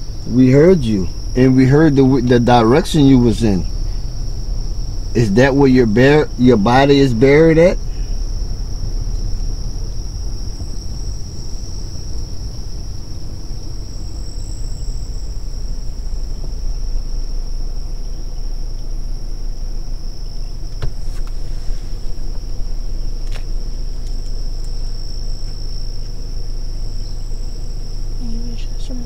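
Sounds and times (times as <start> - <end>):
low rumble: 0.0 - 29.0
night insects trilling: 0.0 - 29.0.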